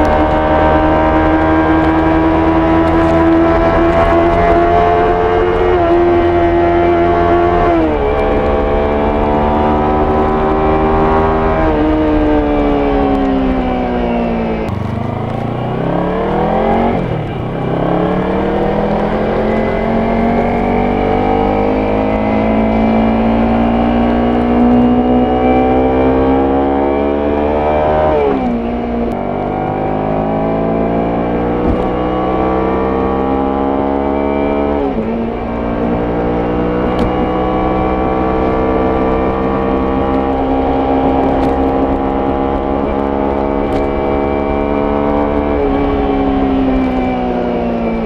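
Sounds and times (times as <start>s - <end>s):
motorcycle engine and exhaust: 0.0s - 48.0s.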